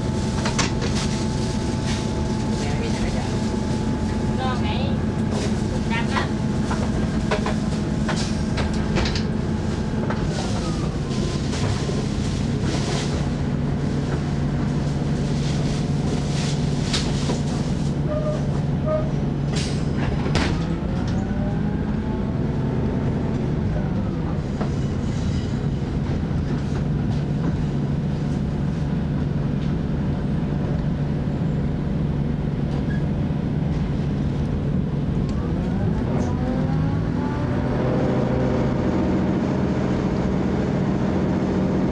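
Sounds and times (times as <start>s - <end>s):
diesel railcar engine drone: 0.0s - 41.9s.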